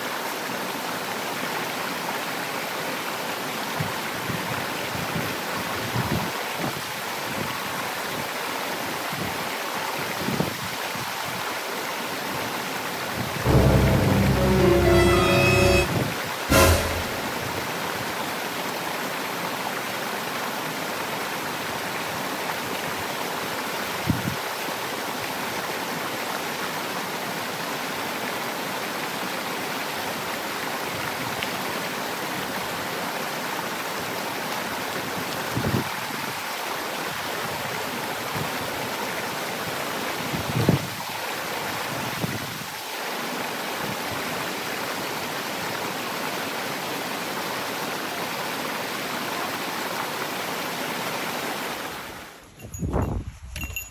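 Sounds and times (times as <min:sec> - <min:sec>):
rushing water: 0:00.0 - 0:52.4.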